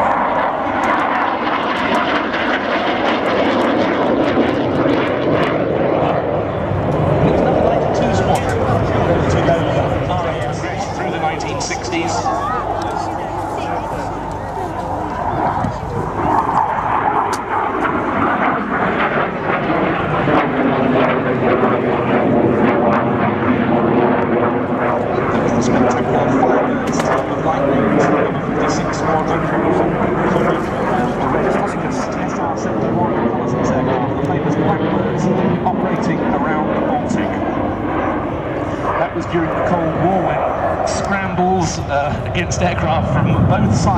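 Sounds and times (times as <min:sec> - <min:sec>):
jet engine roaring overhead: 0:00.0 - 0:43.9.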